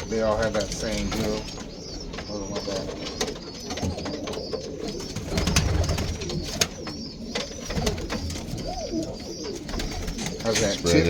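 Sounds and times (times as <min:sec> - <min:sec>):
high bird chirps: 0:00.0 - 0:11.0
pigeons cooing: 0:00.0 - 0:11.0.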